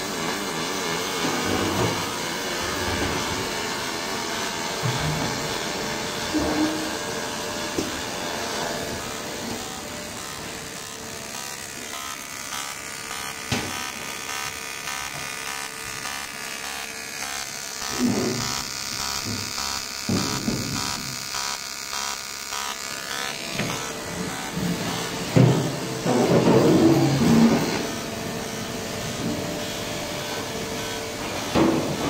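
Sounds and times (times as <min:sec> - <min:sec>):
welding arc buzzing: 0:00.0 - 0:32.0.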